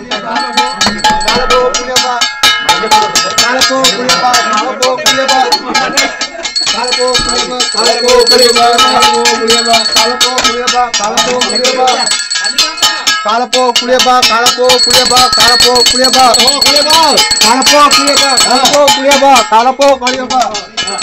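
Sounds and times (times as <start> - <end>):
brass hand bell ringing rapidly: 0.0 - 21.0.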